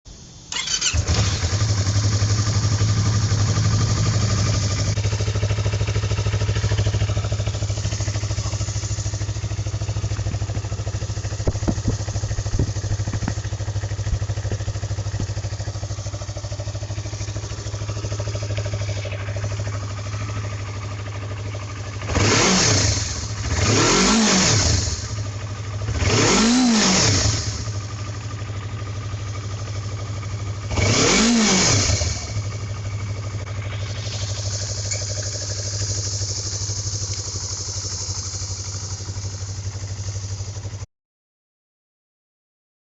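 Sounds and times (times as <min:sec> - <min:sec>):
motorcycle engine idling: 0:00.1 - 0:40.9
engine revving: 0:00.5 - 0:28.4, 0:29.3 - 0:39.0.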